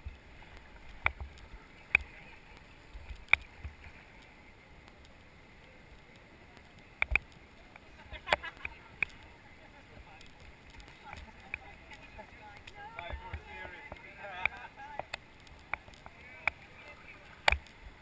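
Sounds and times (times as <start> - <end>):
river water hissing: 0.0 - 18.0.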